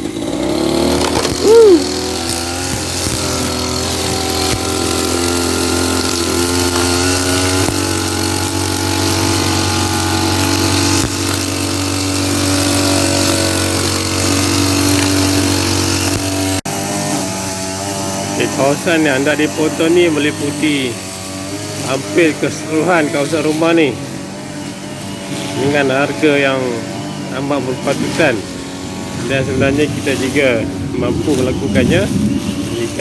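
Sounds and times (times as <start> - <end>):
brush cutter engine cutting grass: 0.0 - 33.0.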